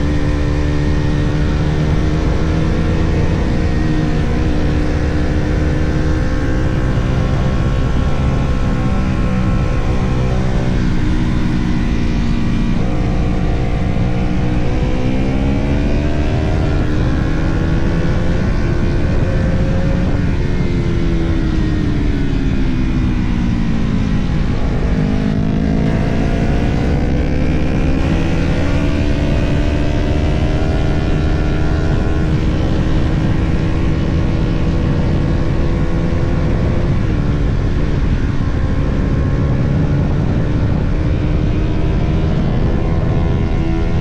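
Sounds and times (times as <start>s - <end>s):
motorcycle engine revving: 0.0s - 44.0s
wind rush: 0.0s - 44.0s.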